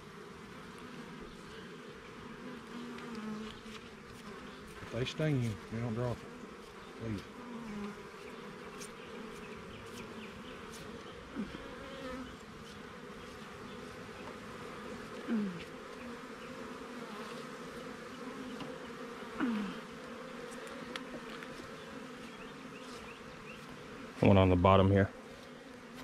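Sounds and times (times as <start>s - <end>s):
single bee buzz sweeping down: 0.0s - 24.5s, 25.1s - 26.0s
honeybees buzzing: 0.0s - 26.0s.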